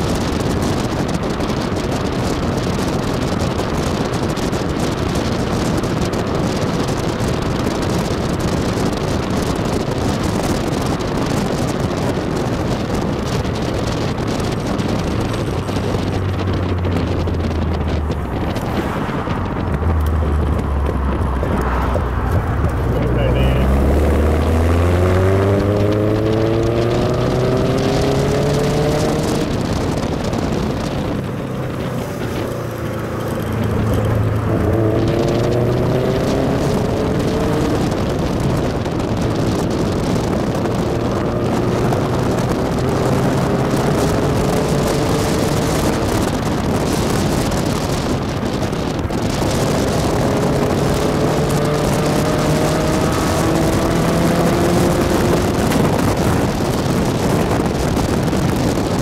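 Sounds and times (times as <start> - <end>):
car engine accelerating hard: 0.0 - 59.0
wind and road noise: 0.0 - 59.0.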